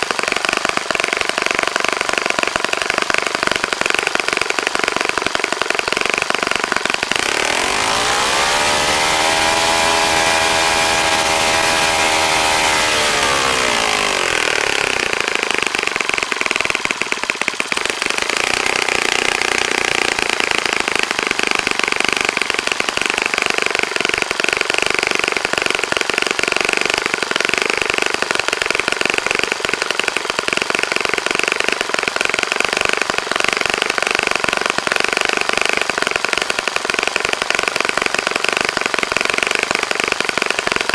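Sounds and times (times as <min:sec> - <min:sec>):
model glow engine running: 0:00.0 - 0:40.9.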